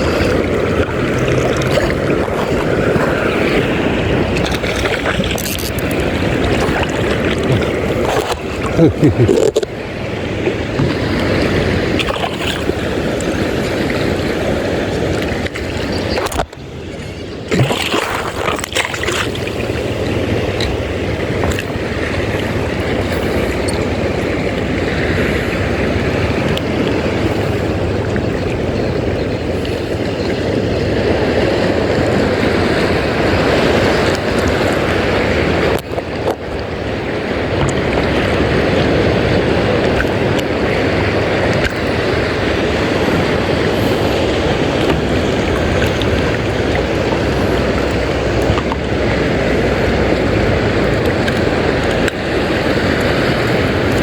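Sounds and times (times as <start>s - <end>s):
sea water rushing around boat: 0.0s - 54.0s.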